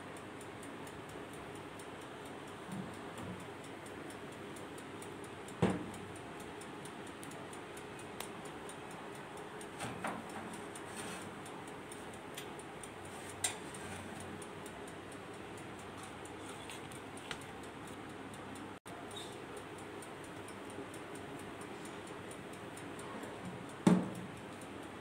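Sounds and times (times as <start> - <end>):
oven timer ticking: 0.0 - 25.0.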